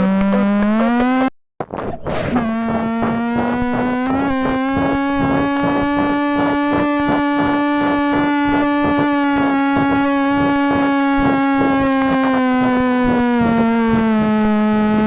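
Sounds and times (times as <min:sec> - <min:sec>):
buzzy pulsing alarm tone: 0:02.4 - 0:15.0.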